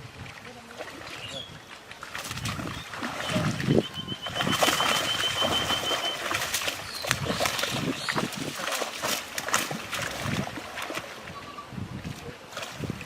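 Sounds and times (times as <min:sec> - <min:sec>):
water splashing in pond: 0:00.0 - 0:13.0.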